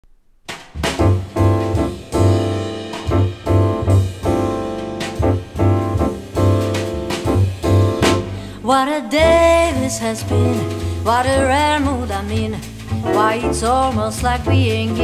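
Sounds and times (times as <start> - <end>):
piano chords: 0.8 - 12.2, 12.8 - 15.0
bass line: 0.8 - 15.0.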